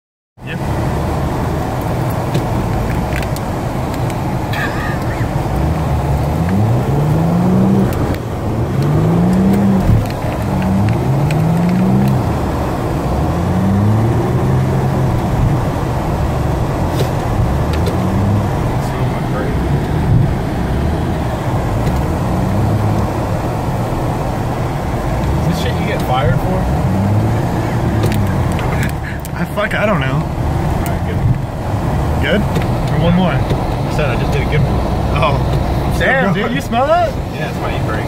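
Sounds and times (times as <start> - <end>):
car engine revving: 0.4 - 38.0
road noise: 0.4 - 38.0.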